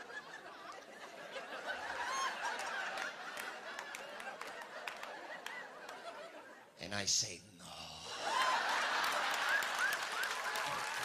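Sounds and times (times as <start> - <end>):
audience laughing: 0.0 - 6.7, 7.9 - 11.0.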